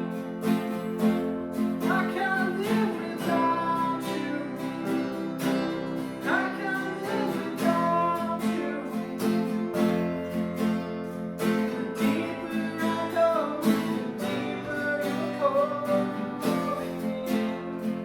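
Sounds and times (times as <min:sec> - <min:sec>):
strummed acoustic guitar: 0:00.0 - 0:18.0
person singing: 0:01.5 - 0:10.4, 0:11.4 - 0:18.0.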